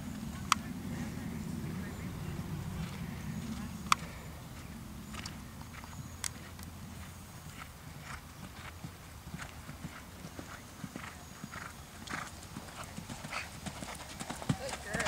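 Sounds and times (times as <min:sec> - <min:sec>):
horse hoofbeats on sand: 0:02.8 - 0:15.0.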